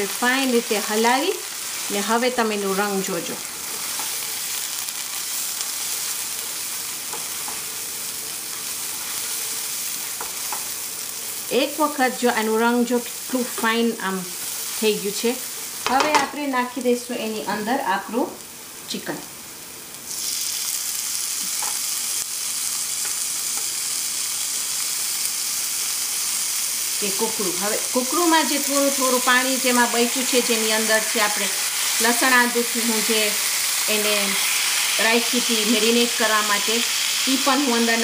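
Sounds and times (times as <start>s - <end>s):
paste sizzling in oil: 0.0s - 18.8s, 19.5s - 38.0s.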